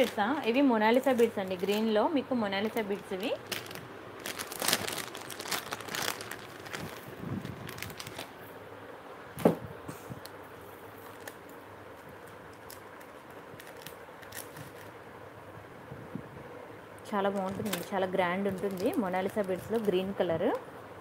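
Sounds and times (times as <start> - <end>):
low steady background noise: 0.0 - 21.0.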